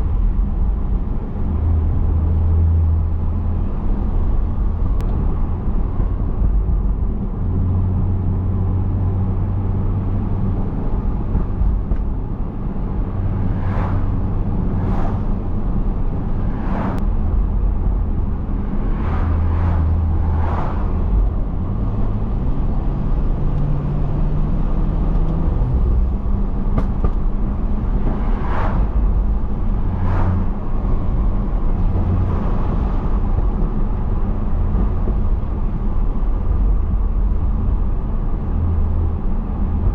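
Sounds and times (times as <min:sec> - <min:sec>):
car engine drone in cabin: 0:00.0 - 0:39.9.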